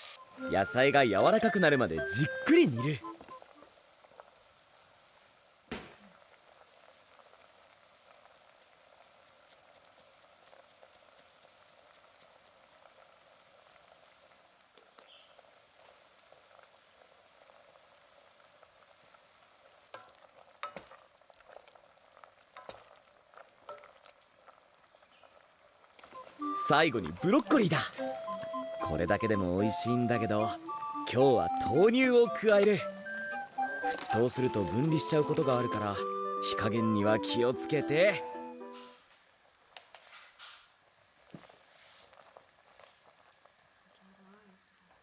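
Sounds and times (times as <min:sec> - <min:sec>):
food sizzling in a pot: 0:00.0 - 0:36.2, 0:37.2 - 0:45.0.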